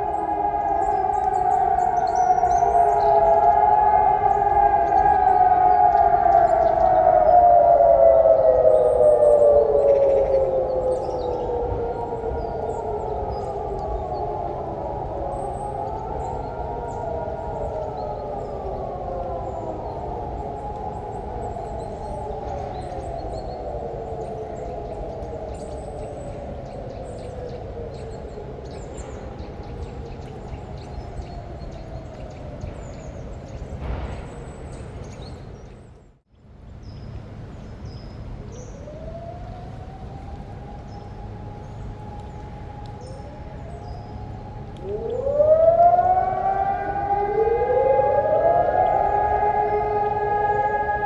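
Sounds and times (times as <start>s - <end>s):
distant sirens wailing: 0.0s - 36.1s, 37.2s - 51.0s.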